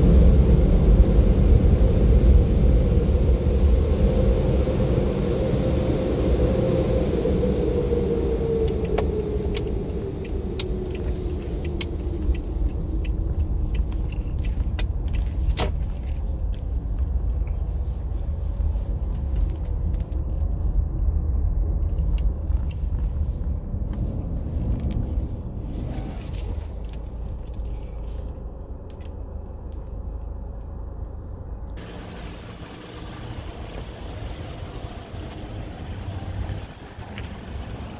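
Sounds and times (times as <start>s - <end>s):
car engine and road rumble: 0.0s - 37.9s.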